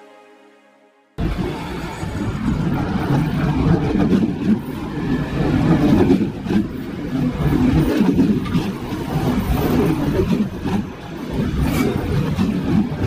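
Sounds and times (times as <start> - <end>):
train wheels rumbling: 1.2 - 13.0.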